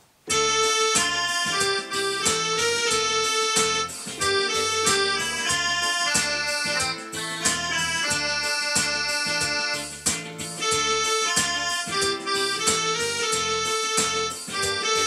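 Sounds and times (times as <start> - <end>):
bass line and steady beat: 0.3 - 15.0
synthesizer keyboard melody: 0.3 - 15.0.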